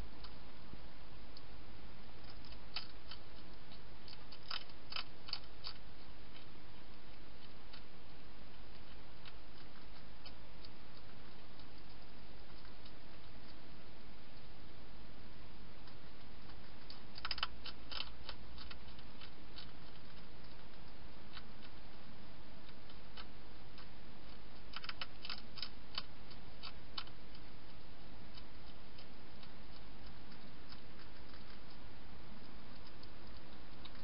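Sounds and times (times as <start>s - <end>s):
hedgehog crunching dry food: 0.1s - 34.0s.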